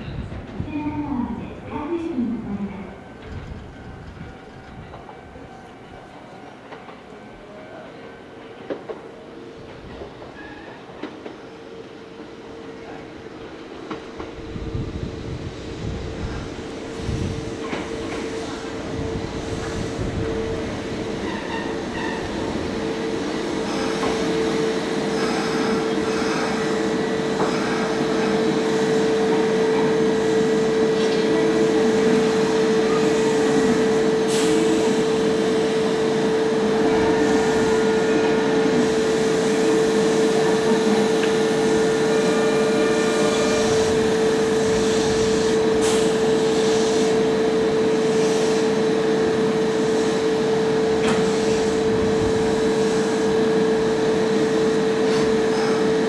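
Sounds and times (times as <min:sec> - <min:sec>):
electric train pulling in: 0:00.0 - 0:56.0.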